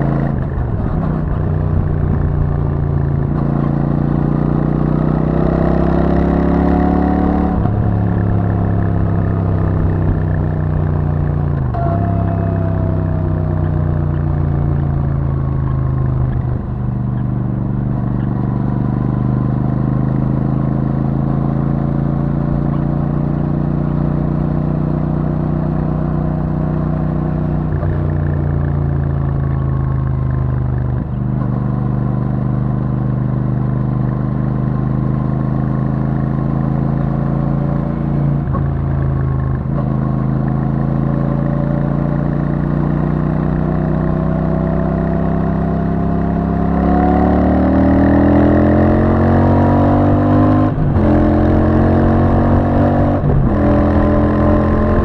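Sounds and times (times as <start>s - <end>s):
motorcycle engine cruising and accelerating: 0.0s - 55.0s.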